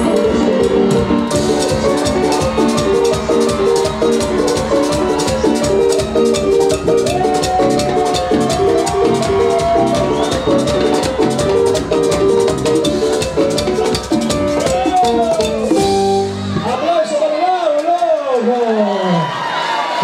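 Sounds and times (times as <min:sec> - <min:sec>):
shaker-like percussion: 0:00.0 - 0:16.2
live band music fast beat: 0:00.0 - 0:17.1.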